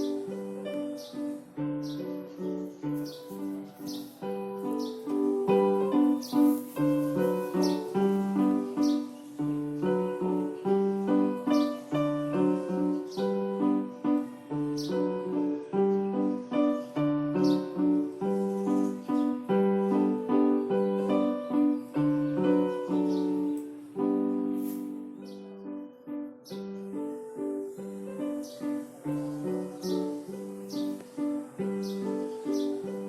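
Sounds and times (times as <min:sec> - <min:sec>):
keyboard music: 0:00.0 - 0:33.0.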